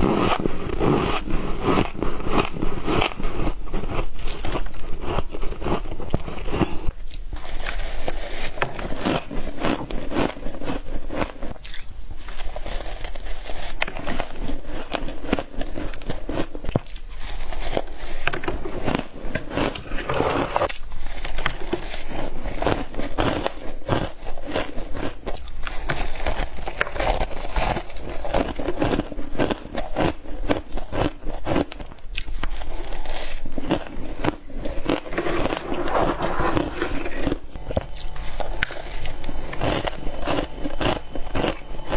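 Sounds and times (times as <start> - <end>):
crisp crackling crunches: 0.0 - 41.9.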